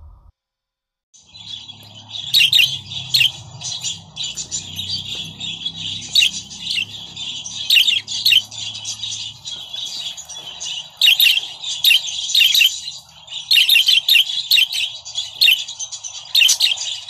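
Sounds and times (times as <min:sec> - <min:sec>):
budgerigars twittering: 0:01.2 - 0:17.0.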